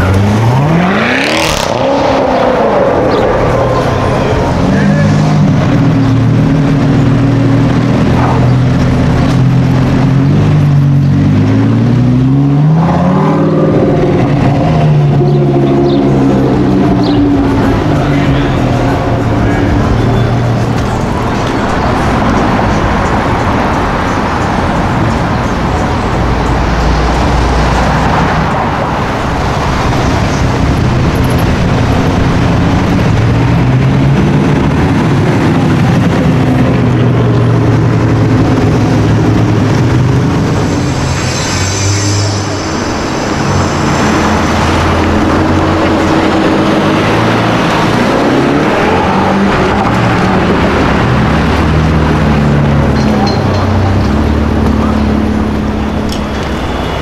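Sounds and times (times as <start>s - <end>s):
car engines driving past: 0.0s - 57.0s.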